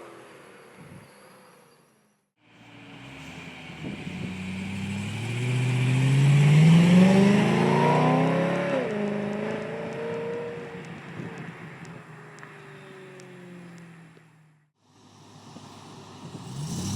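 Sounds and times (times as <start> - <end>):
car exhaust under acceleration: 2.5 - 16.9.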